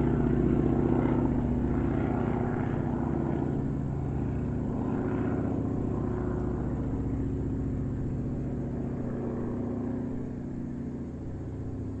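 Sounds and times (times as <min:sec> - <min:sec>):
airplane engine flyover: 0:00.0 - 0:12.0.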